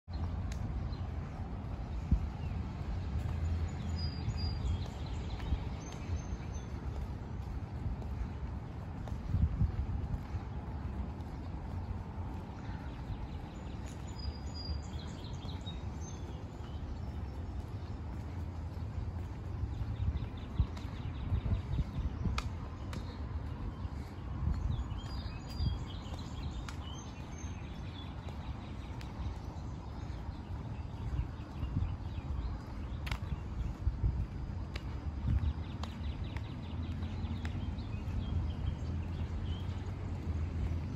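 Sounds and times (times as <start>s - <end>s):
birds chirping: 0.1s - 40.9s
footsteps on asphalt: 0.1s - 40.9s
steady low rumble: 0.1s - 40.9s.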